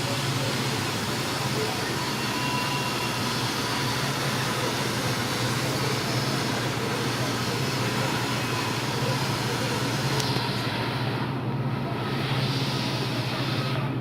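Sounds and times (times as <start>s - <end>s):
floor scrubber motor hum: 0.0s - 14.0s.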